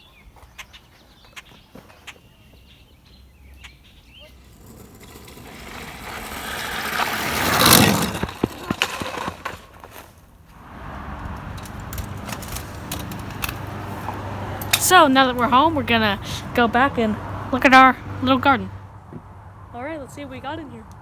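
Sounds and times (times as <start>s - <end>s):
vehicle passing: 3.0s - 21.0s.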